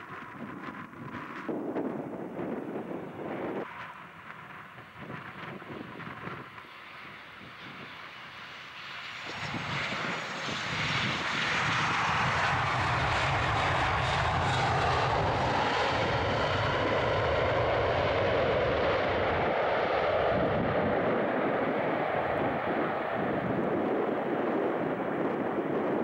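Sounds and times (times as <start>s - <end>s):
jet airliner engines rumbling: 0.0s - 26.0s.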